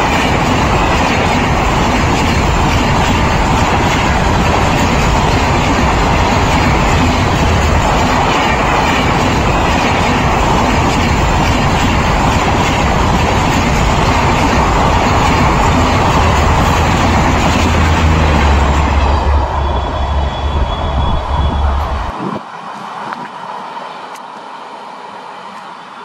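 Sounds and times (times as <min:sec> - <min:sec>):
train coaches rumbling and rattling: 0:00.0 - 0:24.6.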